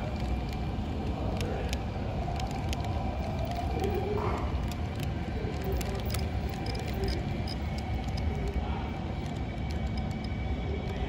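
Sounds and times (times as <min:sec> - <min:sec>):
model train rolling rumble: 0:00.0 - 0:11.0
wheels clicking on rails: 0:00.0 - 0:11.0.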